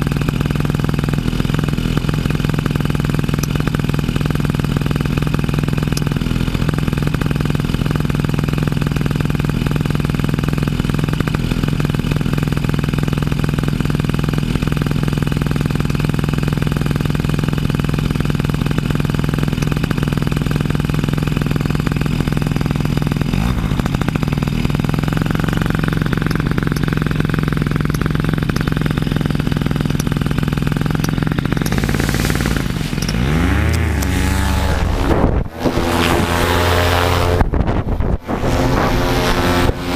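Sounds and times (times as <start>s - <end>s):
paramotor engine running: 0.0s - 39.9s.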